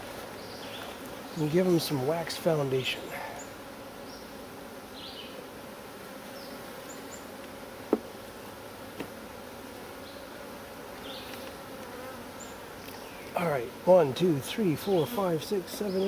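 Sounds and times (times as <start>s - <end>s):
bees humming: 0.0s - 16.0s.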